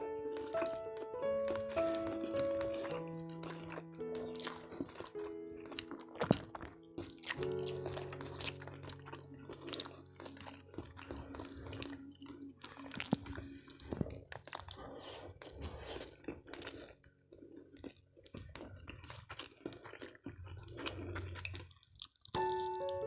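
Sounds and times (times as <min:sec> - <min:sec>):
chewing food: 0:00.0 - 0:23.0
cracker crunching: 0:00.0 - 0:23.0.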